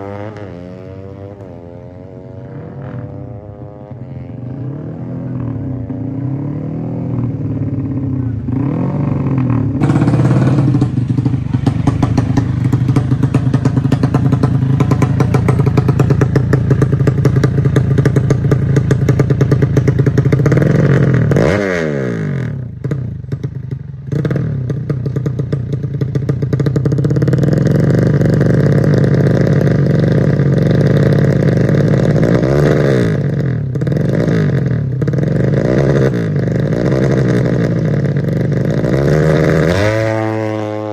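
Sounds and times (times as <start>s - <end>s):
motorcycle engine revving hard: 0.0s - 23.4s, 26.1s - 40.9s.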